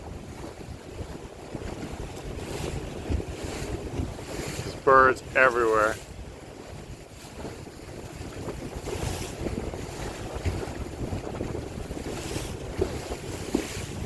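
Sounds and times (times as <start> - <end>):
water lapping around boat: 0.0 - 14.0
wind buffeting microphone: 0.0 - 14.0.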